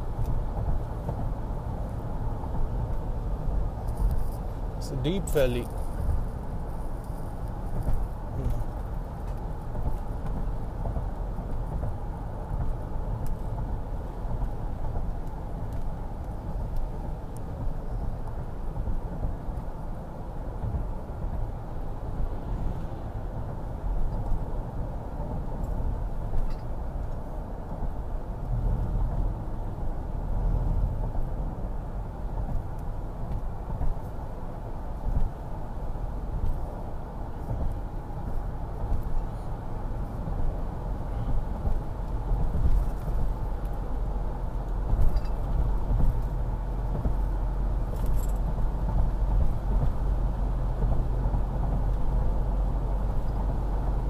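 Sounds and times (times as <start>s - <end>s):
vehicle cabin road rumble: 0.0s - 54.0s.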